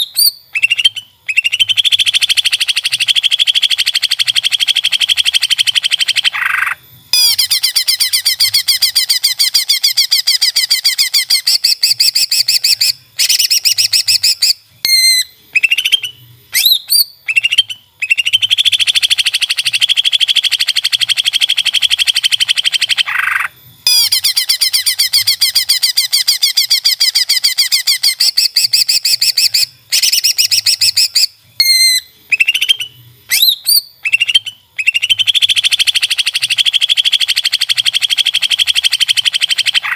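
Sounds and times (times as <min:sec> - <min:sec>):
bird whistled notes: 0:00.0 - 0:39.9.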